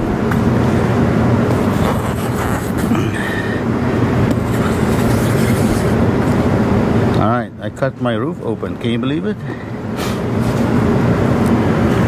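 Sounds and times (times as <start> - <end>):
constant hum: 0.0 - 12.0.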